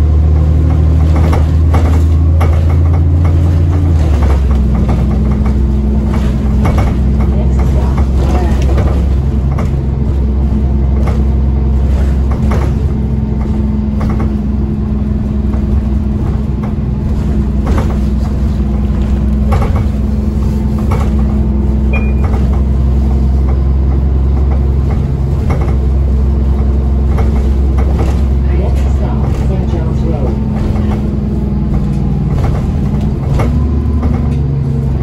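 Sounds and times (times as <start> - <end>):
bus engine droning: 0.0 - 35.0
knocks and rattles: 0.0 - 35.0.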